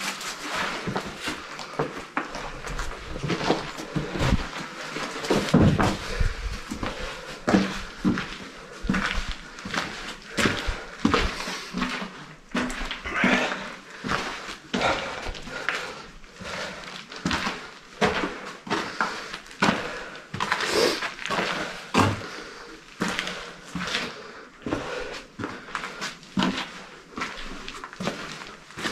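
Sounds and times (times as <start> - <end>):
footsteps on concrete and boards: 0.0 - 28.9.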